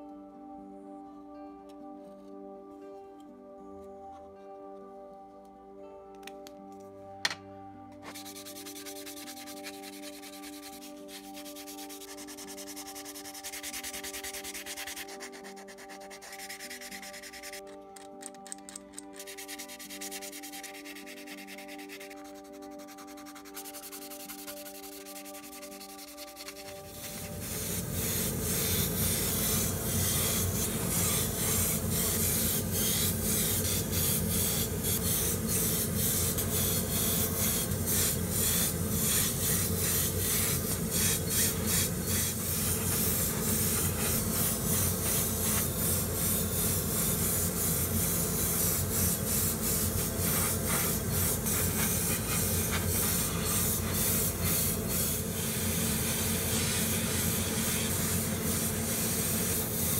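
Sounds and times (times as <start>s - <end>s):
airbrush hissing: 8.1s - 17.6s, 19.1s - 59.9s.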